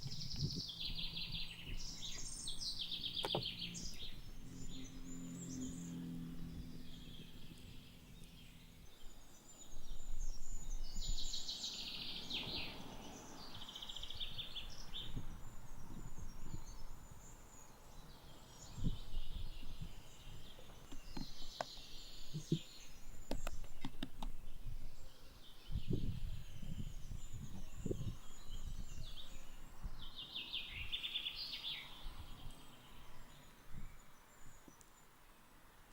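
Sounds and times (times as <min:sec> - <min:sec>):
birds chirping and trilling: 0:00.0 - 0:35.6.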